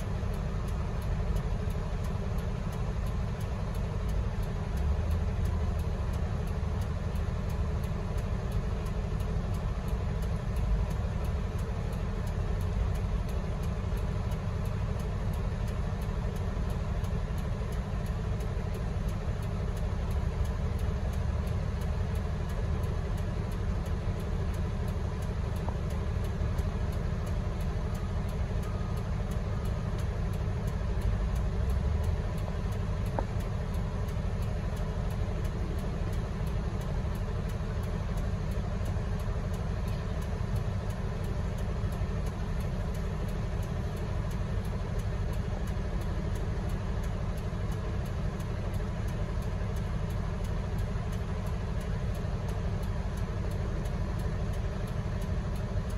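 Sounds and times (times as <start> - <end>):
heavy diesel machinery drone: 0.0 - 55.9.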